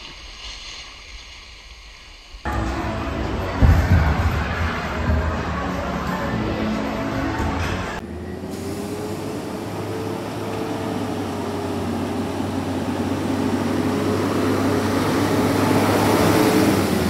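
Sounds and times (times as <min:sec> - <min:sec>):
faint engine whine: 0:02.5 - 0:17.0
garbage truck engine running: 0:02.5 - 0:17.0.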